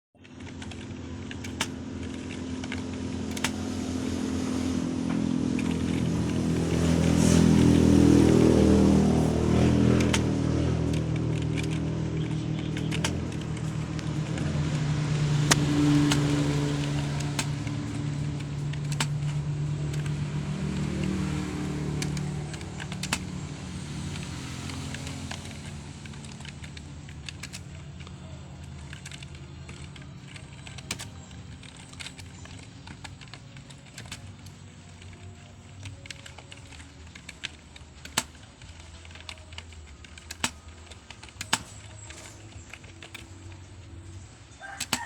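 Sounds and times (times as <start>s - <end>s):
keyboard typing: 0.2s - 45.0s
passing vehicle engine hum: 0.2s - 45.0s.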